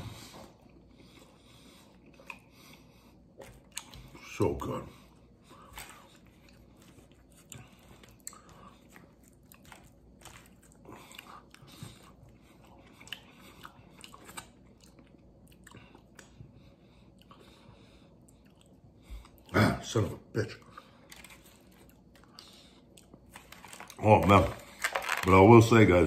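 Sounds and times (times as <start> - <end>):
close-up chewing: 0.0 - 19.6, 20.6 - 25.4.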